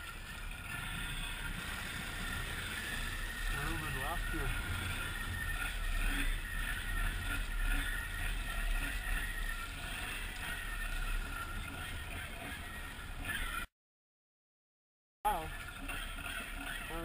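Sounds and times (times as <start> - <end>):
atv engine running: 0.0 - 13.7, 15.3 - 17.0.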